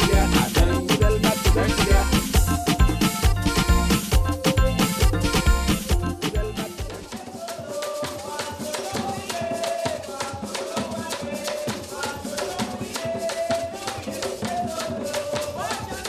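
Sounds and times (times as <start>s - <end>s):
person singing: 0.0s - 3.7s, 5.2s - 16.0s
drumming: 0.0s - 16.0s.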